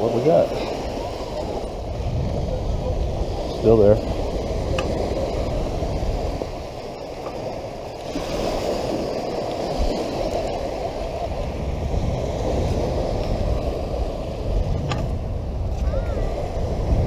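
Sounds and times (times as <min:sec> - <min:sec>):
surf: 0:00.0 - 0:17.0
wind: 0:00.0 - 0:17.0.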